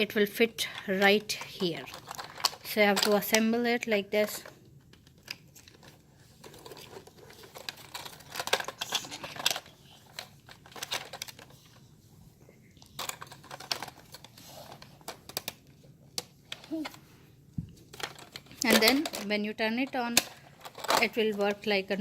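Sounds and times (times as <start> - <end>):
plastic toy parts clicking and rattling: 0.6 - 11.8, 12.8 - 17.0, 17.9 - 21.8.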